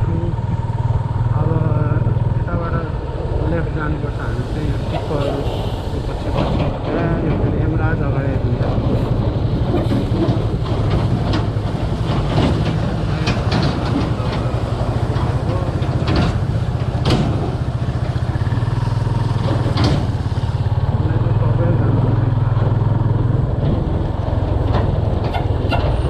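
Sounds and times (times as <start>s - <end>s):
motorcycle engine running: 0.0s - 4.6s, 9.3s - 26.0s.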